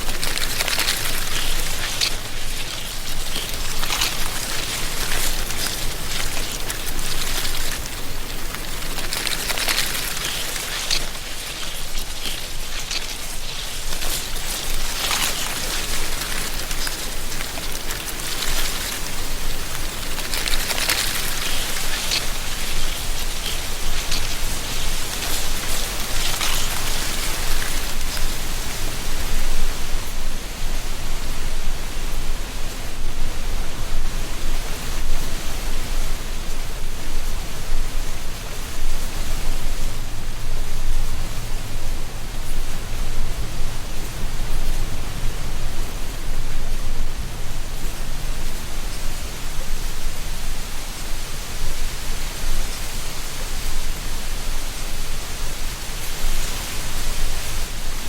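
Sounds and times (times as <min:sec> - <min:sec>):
dry leaves rustling: 0:00.0 - 0:58.0
wind through treetops: 0:00.0 - 0:58.0.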